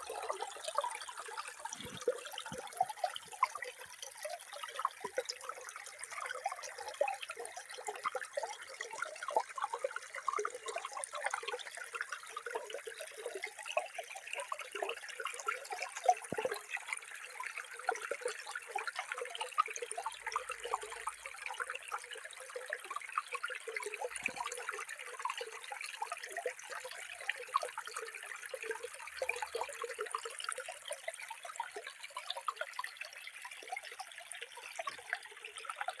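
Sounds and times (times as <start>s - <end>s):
running water gurgling: 0.0s - 36.0s.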